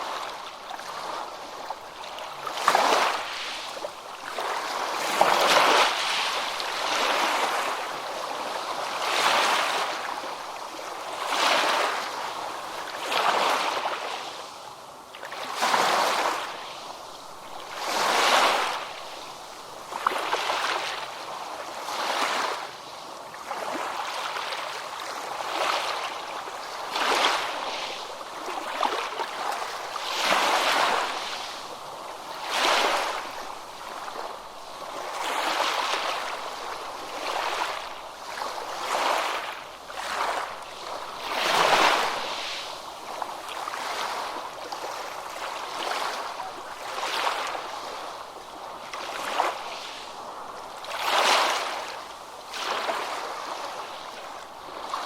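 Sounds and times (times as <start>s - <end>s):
ocean waves breaking: 0.0s - 14.4s, 15.3s - 22.7s, 23.4s - 55.0s.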